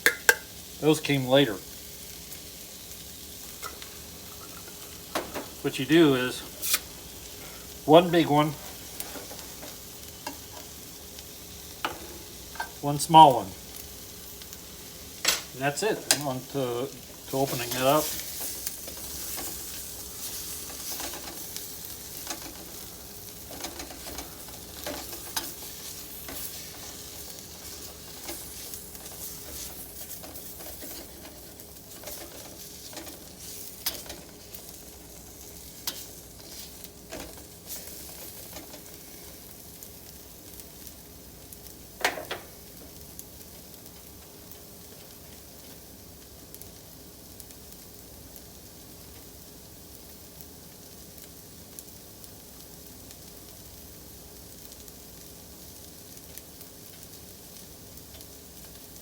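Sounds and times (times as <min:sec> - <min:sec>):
onions sizzling in a pot: 0:00.0 - 0:59.0.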